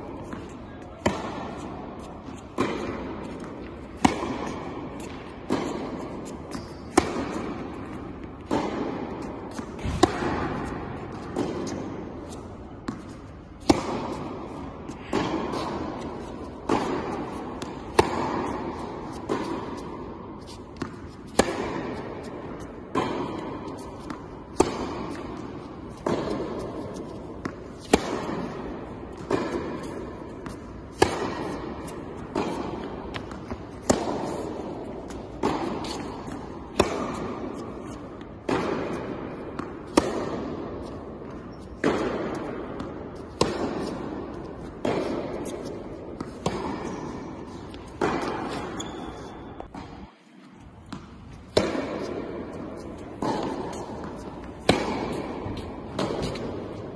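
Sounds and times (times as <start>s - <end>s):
racket striking tennis ball: 0.0s - 56.9s
tennis ball bounces: 0.0s - 56.9s.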